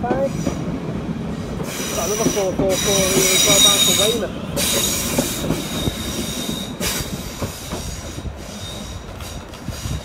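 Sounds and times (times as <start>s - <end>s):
train wheels squealing: 1.6s - 10.0s.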